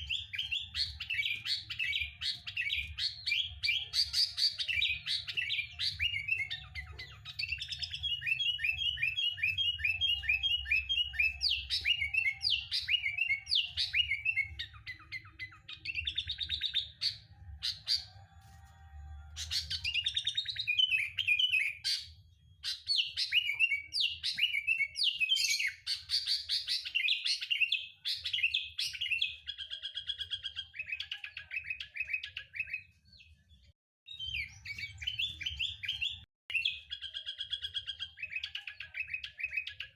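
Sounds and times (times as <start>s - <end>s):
bulbul singing: 0.0s - 18.4s, 19.0s - 39.9s.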